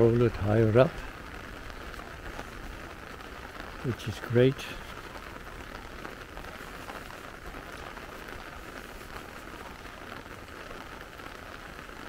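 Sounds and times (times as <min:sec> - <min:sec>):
soft rain falling: 0:00.0 - 0:12.0.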